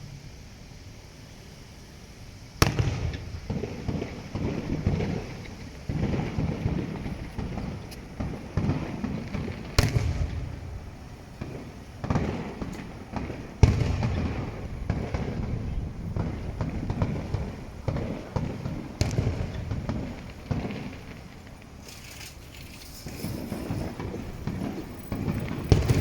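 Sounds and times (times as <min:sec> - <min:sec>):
fireworks booming: 0:02.6 - 0:26.0.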